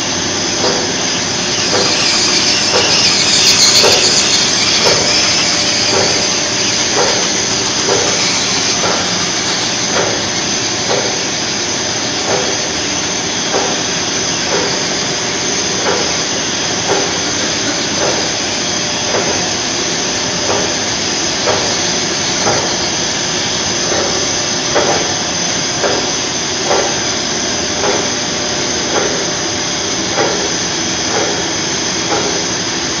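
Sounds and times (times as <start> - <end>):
machine whirring hiss: 0.0 - 33.0.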